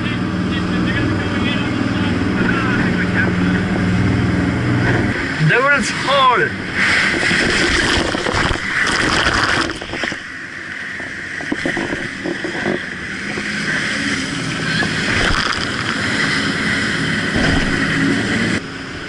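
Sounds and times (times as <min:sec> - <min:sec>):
boat engine drone: 0:00.0 - 0:19.0
rushing water and air: 0:00.0 - 0:19.0.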